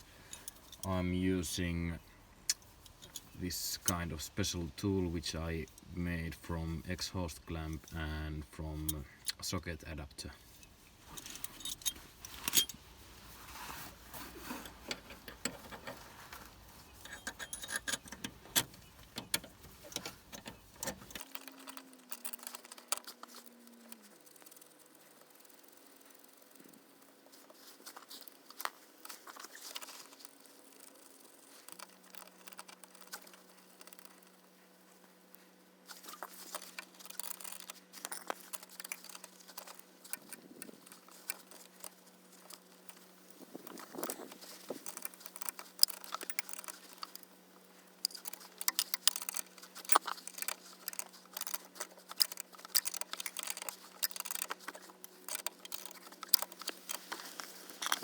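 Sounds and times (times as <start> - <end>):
hand tools clinking and scraping metal: 0.0 - 25.4, 26.7 - 58.0.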